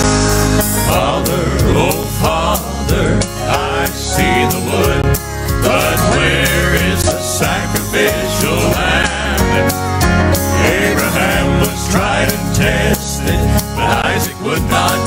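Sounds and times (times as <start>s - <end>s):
instrumental accompaniment with beat: 0.0s - 15.0s
male quartet singing in harmony: 0.6s - 15.0s.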